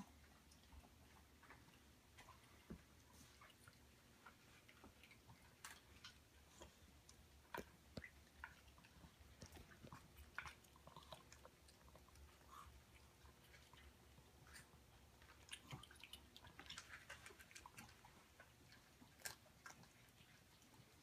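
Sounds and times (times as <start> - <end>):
pet crunching dry food: 0.1 - 21.0.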